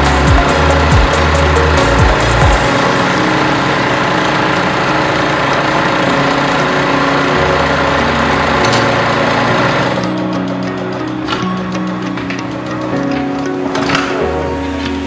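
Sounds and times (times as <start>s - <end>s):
background music: 0.0s - 15.0s
sewing machine running: 0.0s - 15.0s.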